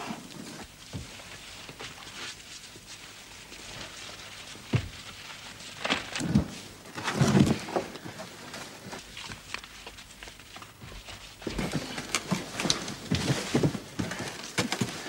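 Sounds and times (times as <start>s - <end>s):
people scuffling and bumping: 0.0s - 15.0s
scraping and shuffling: 0.0s - 15.0s.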